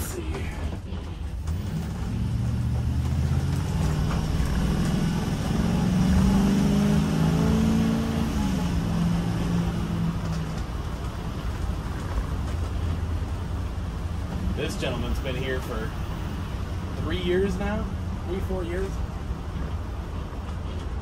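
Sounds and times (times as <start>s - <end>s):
motorhome engine accelerating: 0.0s - 21.0s
road noise: 0.0s - 21.0s.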